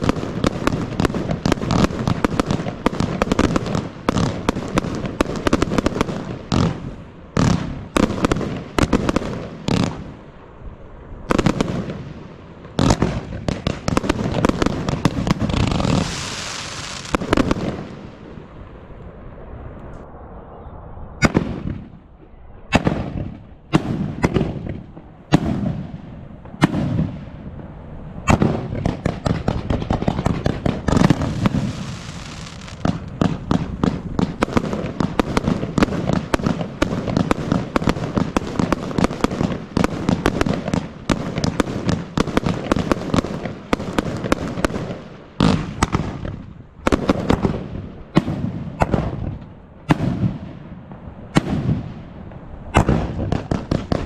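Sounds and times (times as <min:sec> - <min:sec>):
fireworks banging: 0:00.0 - 0:10.5, 0:11.2 - 0:20.0, 0:21.2 - 0:54.0.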